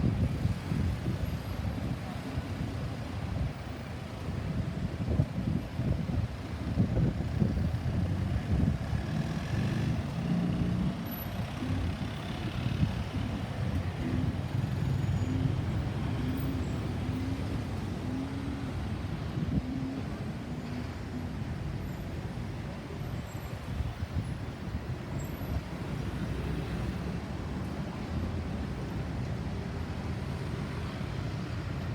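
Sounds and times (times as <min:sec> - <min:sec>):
passing heavy vehicles: 0:00.0 - 0:31.9.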